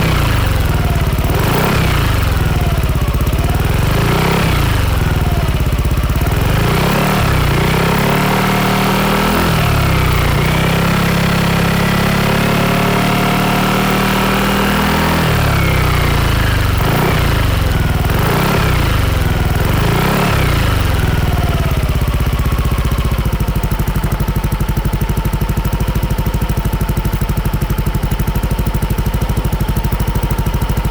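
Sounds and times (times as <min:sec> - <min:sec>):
scooter engine revving and idling: 0:00.0 - 0:30.9.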